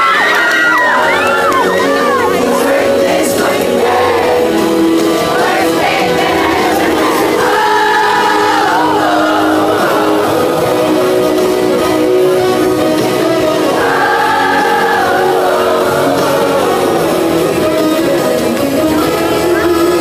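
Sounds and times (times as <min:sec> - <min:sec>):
backing voices: 0:00.0 - 0:20.0
live rnb band: 0:00.0 - 0:20.0
person singing: 0:00.0 - 0:20.0.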